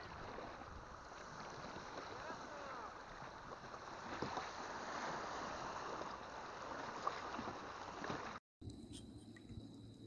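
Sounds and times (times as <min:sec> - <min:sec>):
river water gurgling: 0:00.0 - 0:08.4.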